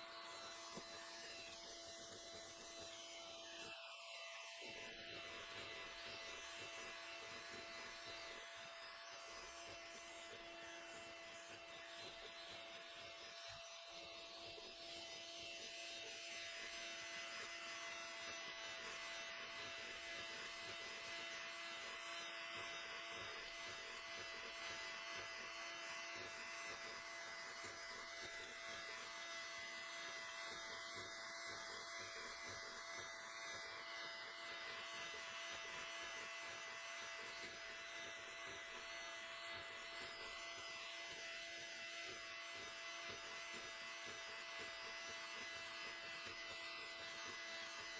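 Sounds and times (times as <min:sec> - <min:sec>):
small electric motor humming: 0:00.0 - 0:47.9.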